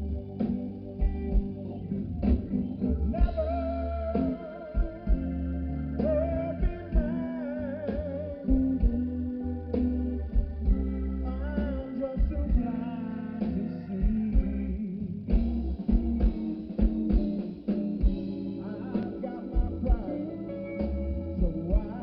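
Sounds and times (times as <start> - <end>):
bass guitar: 0.0 - 22.0
electric guitar: 0.0 - 22.0
steady drum beat: 0.0 - 22.0.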